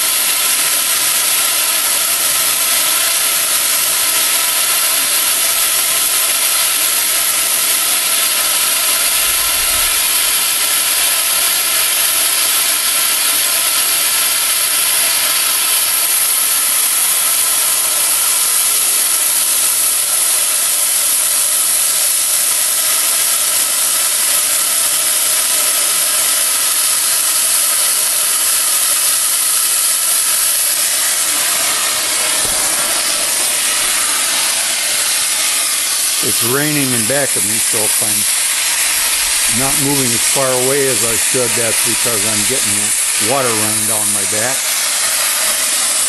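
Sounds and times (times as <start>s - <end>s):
cutting torch hissing: 0.0s - 46.0s.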